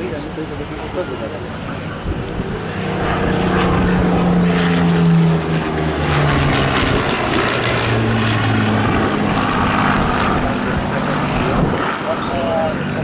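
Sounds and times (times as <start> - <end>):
propeller aircraft engine flying past: 0.0 - 13.0.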